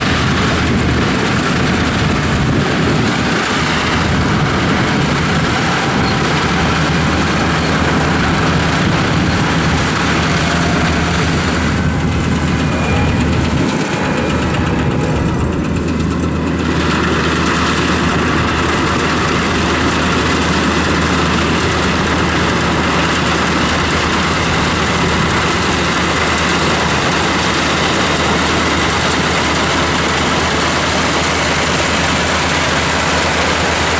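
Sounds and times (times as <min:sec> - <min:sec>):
combine harvester diesel engine: 0:00.0 - 0:33.9.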